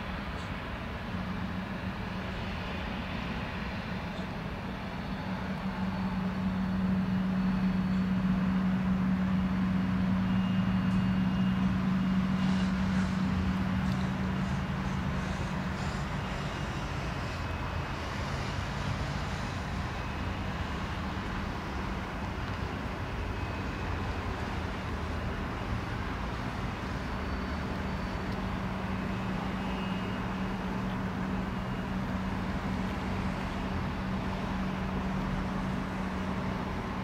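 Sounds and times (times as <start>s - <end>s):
jet engines taxiing: 0.0s - 37.0s.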